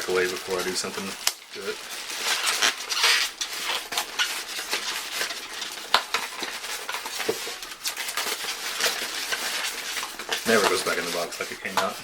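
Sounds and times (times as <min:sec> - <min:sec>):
crackly packaging rustling: 0:00.0 - 0:12.0.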